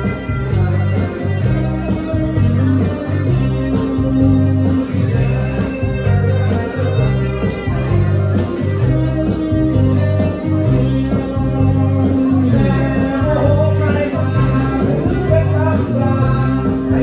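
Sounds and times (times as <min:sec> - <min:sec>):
electric guitars: 0:00.0 - 0:17.0
keyboard: 0:00.0 - 0:17.0
low bass line: 0:00.0 - 0:17.0.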